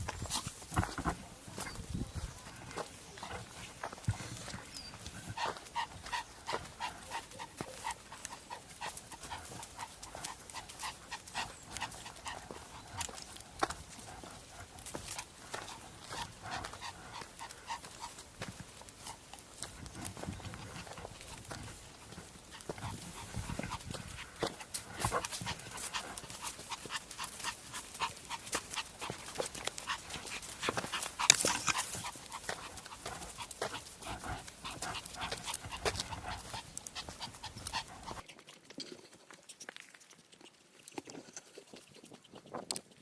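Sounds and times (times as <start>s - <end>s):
dog panting: 0.0s - 38.3s.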